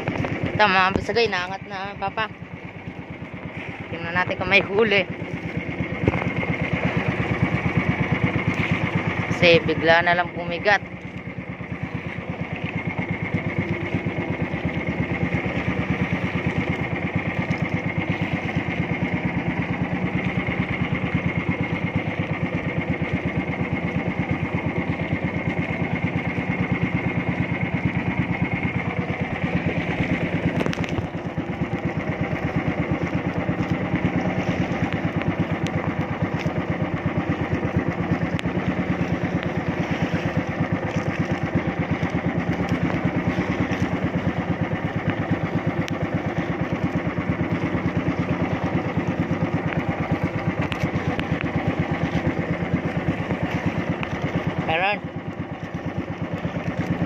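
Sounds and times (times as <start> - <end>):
boat engine running: 0.0 - 57.0
thin steady whine: 0.0 - 57.0.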